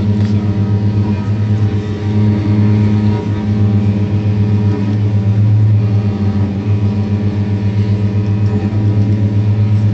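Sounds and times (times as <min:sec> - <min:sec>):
double bass bowed low drone: 0:00.0 - 0:09.9.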